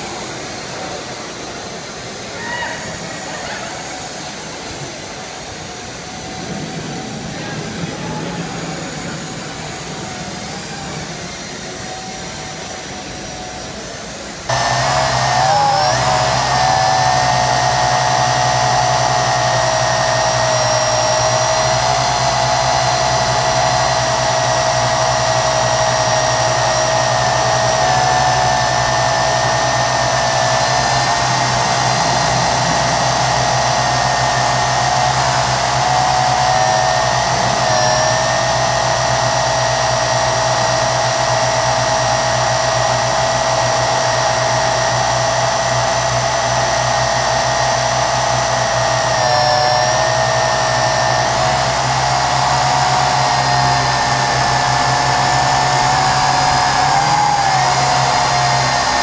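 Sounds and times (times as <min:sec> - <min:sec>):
quadcopter propellers whining: 0:00.0 - 0:59.0.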